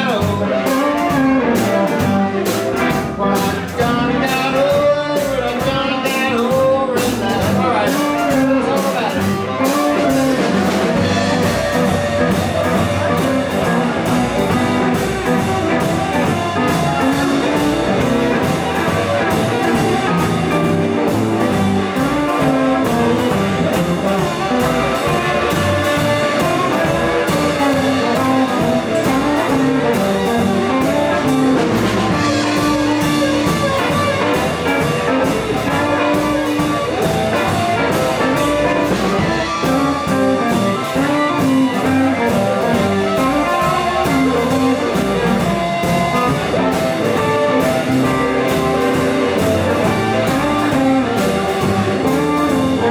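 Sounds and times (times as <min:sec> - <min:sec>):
blues band playing: 0:00.0 - 0:52.9
harmonica lead: 0:00.0 - 0:52.9.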